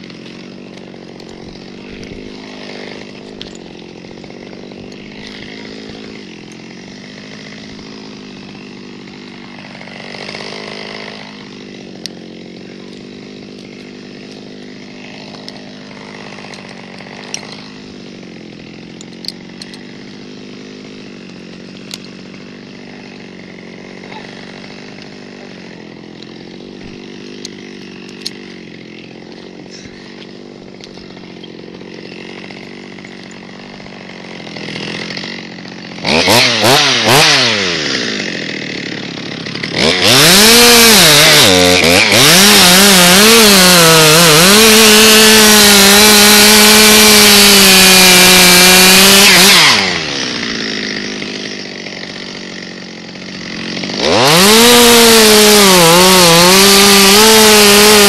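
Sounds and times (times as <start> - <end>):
chainsaw revving and cutting wood: 0.0 - 58.0.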